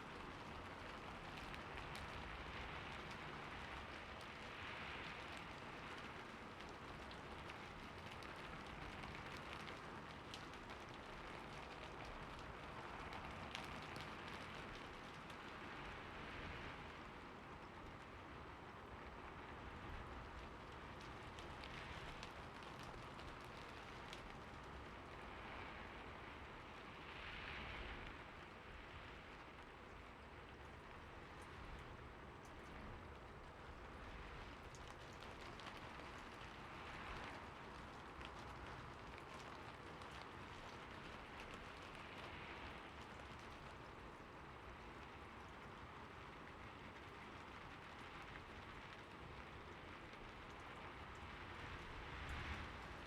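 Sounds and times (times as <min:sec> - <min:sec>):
raindrops ticking: 0:00.0 - 0:16.2, 0:17.0 - 0:25.4, 0:29.5 - 0:53.0
steady rain falling: 0:00.0 - 0:53.0.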